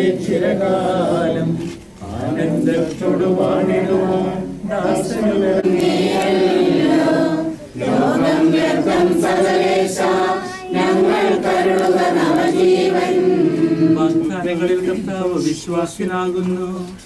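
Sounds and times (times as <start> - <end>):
group singing a hymn: 0.0 - 15.8.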